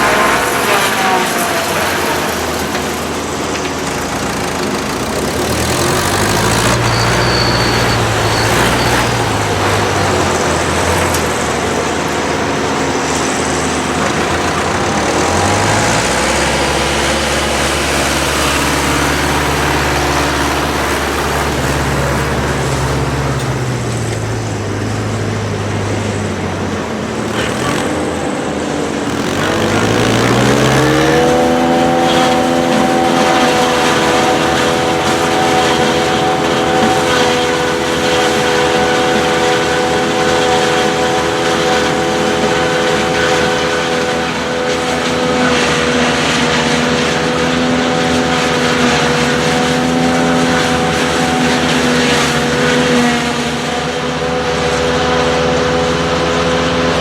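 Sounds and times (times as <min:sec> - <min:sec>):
forage harvester machine noise: 0:00.0 - 0:57.0
tractor diesel engines running: 0:00.0 - 0:57.0.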